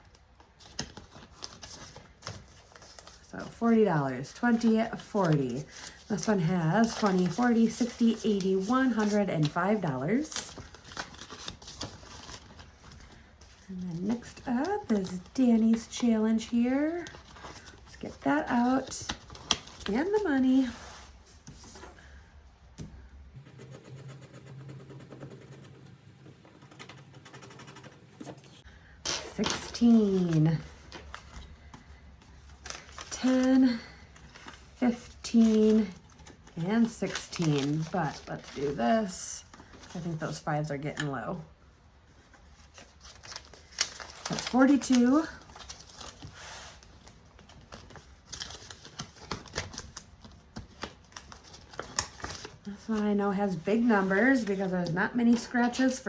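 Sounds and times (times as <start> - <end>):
paper rustling: 0.0 - 22.2, 24.0 - 40.5, 42.1 - 55.9.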